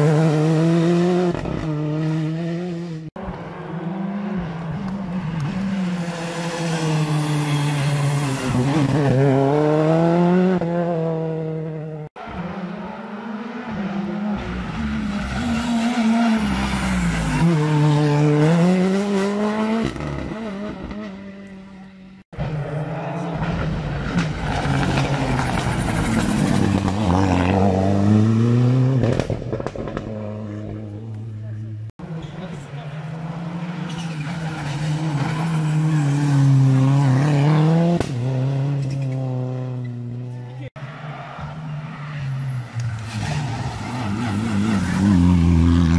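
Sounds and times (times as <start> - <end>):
rally car engine passing: 0.0 - 45.9.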